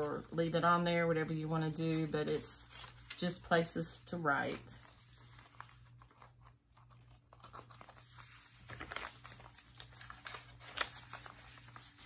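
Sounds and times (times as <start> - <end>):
paper pages rustling and crinkling: 0.0 - 12.0.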